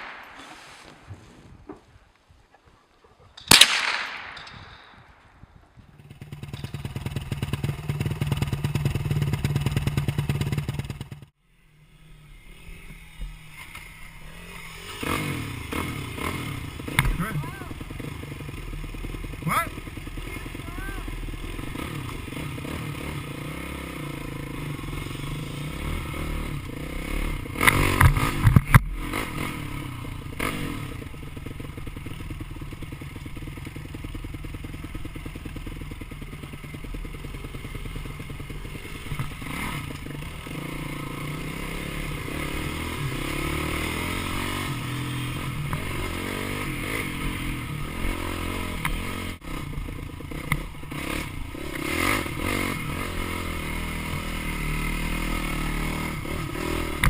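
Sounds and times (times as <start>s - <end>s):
dirt bike engine revving: 0.0s - 1.2s, 5.0s - 57.0s.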